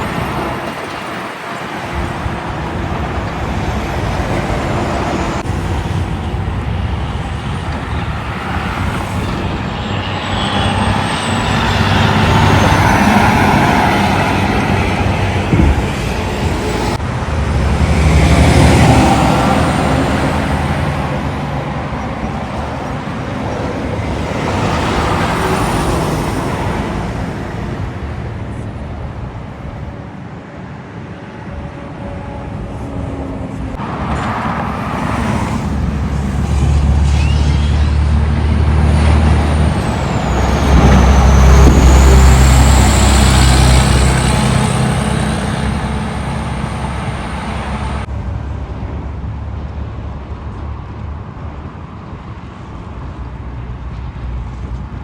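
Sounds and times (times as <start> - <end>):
heavy trucks passing: 0.0 - 55.0.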